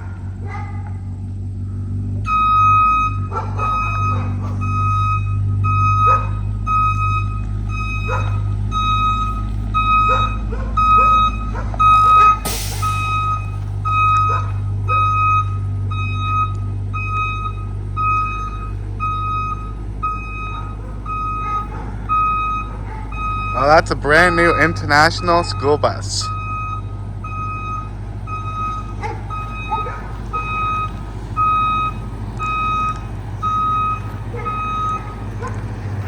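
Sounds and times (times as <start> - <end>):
diesel engine humming: 0.0 - 36.0
reverse alarm beeping: 2.2 - 35.2.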